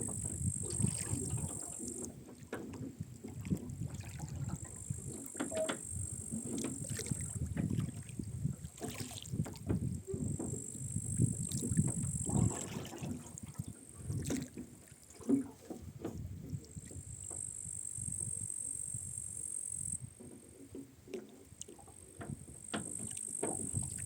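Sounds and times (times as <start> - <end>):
oars splashing in water: 0.0 - 17.5, 20.2 - 24.0.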